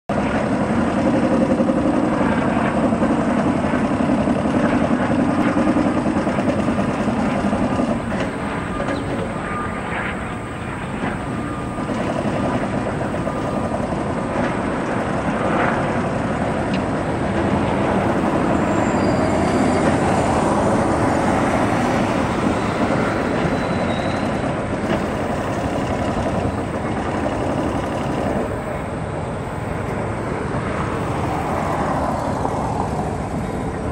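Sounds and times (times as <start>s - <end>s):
diesel locomotive engine: 0.1s - 33.9s
train rumbling on rails: 0.1s - 33.9s.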